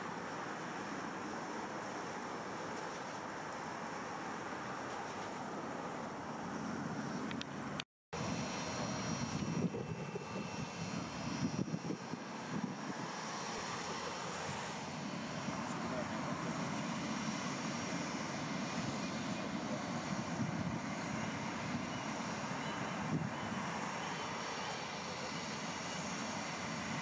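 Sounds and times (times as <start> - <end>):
faint high whine: 0.0 - 27.0
jet engines droning: 0.0 - 27.0.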